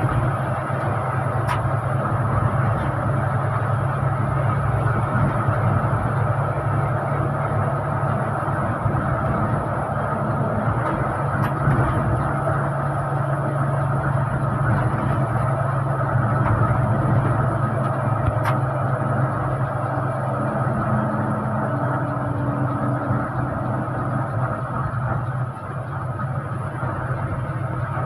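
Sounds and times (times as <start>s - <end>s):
bus engine hum: 0.0s - 28.0s
road noise: 0.0s - 28.0s.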